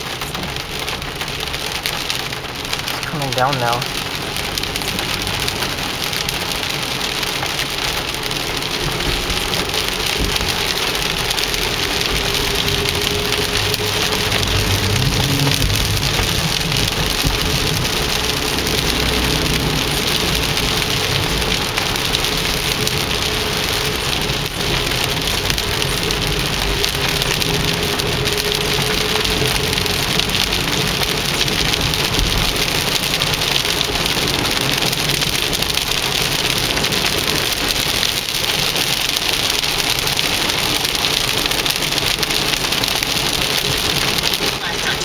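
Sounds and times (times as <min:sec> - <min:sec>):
car driving on wet road: 0:00.0 - 0:45.0
heavy rain on car windshield: 0:00.0 - 0:45.0.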